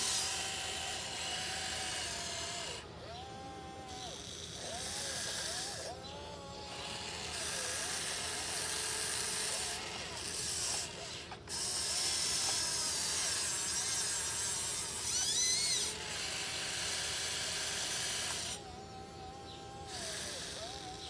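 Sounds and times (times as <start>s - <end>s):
electric gear motors whining: 0.0s - 21.0s.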